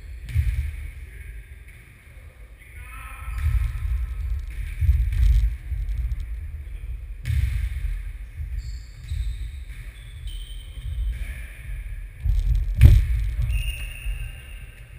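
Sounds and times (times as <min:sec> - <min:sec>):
low rumble on microphone: 0:00.0 - 0:14.9.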